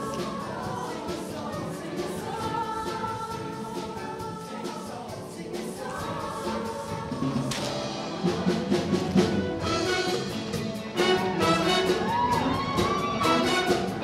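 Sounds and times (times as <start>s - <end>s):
choir singing over backing band: 0.0s - 14.0s.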